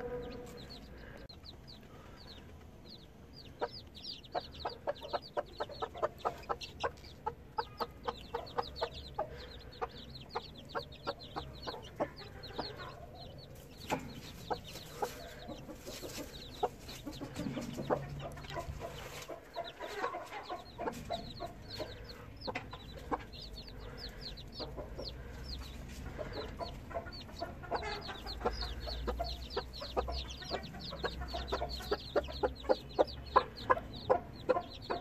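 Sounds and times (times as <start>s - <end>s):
chicks peeping: 0.0s - 35.0s
hen clucking: 0.0s - 35.0s.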